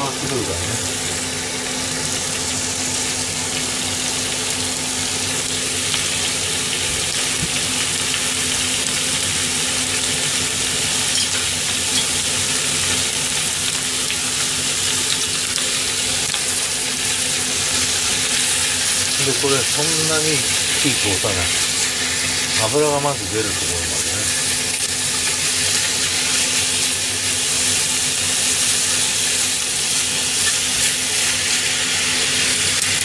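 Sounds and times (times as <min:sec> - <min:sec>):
beef sizzling in a frying pan: 0:00.0 - 0:33.0.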